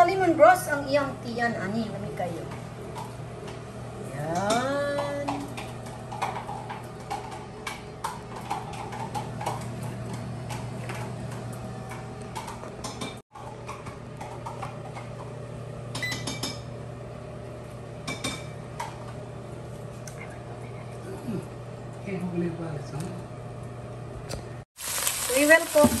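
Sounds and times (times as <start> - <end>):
air fryer fan humming: 0.0 - 26.0.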